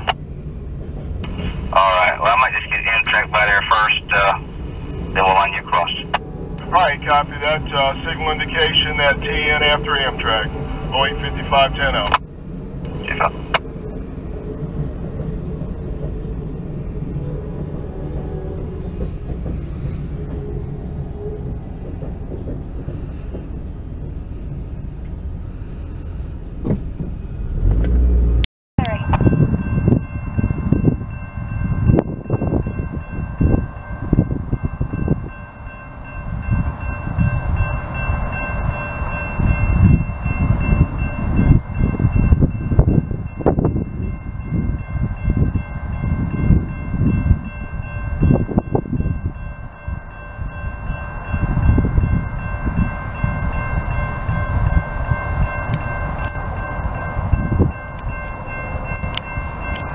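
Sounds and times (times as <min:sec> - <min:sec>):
low rumbling: 0:00.0 - 0:59.9
crossing warning bell ringing: 0:01.2 - 0:26.3, 0:28.8 - 0:59.9.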